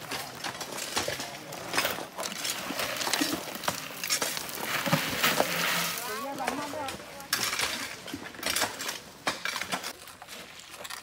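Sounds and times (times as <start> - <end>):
gravel clattering in plastic buckets: 0.0 - 11.0.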